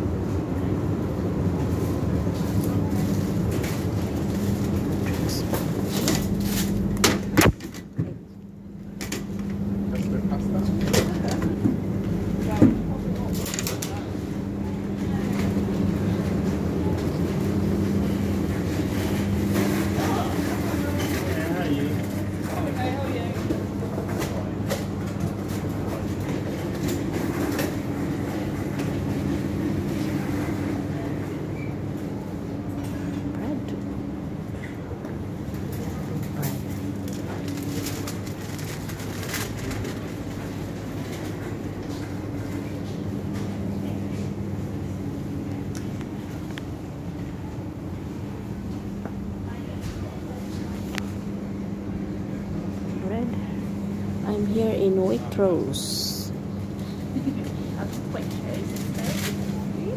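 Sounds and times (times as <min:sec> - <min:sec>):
supermarket hum and rumble: 0:00.0 - 0:59.9.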